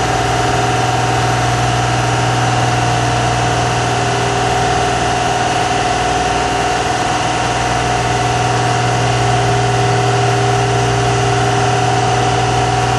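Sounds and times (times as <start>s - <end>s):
hydraulic power pack whining: 0.0s - 12.9s.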